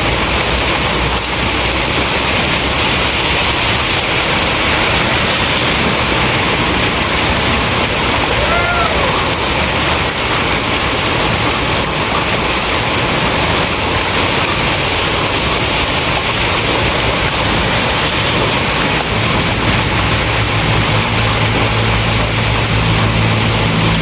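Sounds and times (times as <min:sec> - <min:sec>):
faint raindrops: 0:00.0 - 0:24.0
rain falling: 0:00.0 - 0:24.0.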